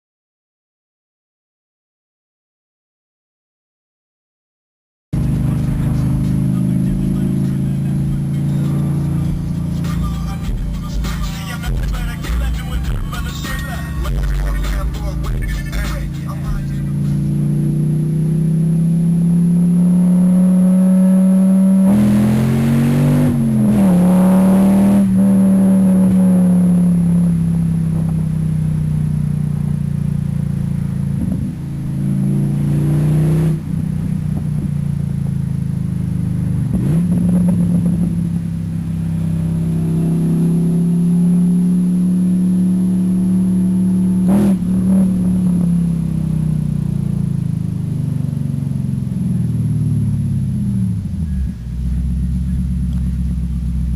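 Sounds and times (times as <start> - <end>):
car engine revving: 5.2 - 53.9.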